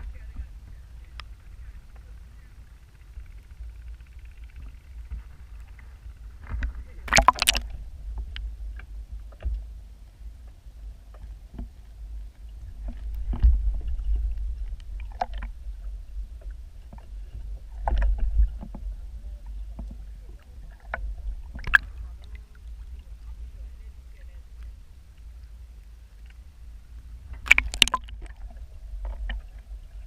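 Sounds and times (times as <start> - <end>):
underwater water rumble: 0.0 - 30.0.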